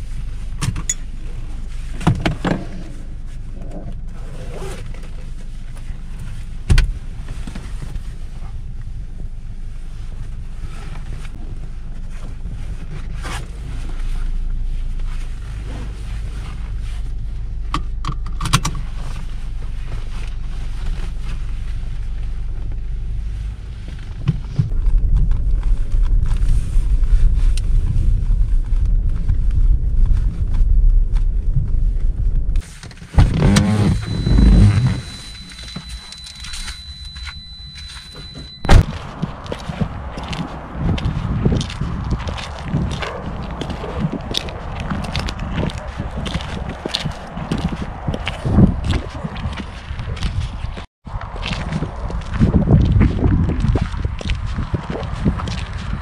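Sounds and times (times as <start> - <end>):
car engine rumble: 0.0 - 56.0
road noise inside car: 0.0 - 56.0.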